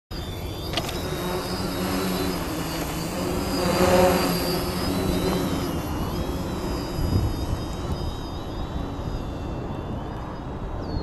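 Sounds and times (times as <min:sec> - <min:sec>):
drone propellers buzzing: 0:00.1 - 0:11.0.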